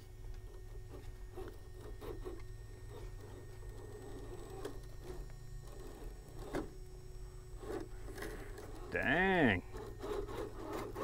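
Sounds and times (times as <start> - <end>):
toy car motor whine: 0.0 - 11.0.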